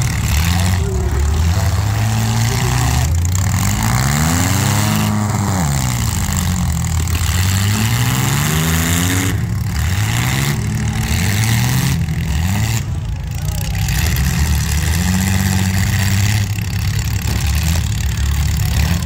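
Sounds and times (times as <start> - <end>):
car engines running hard: 0.0 - 19.0
engine revving: 0.0 - 19.0.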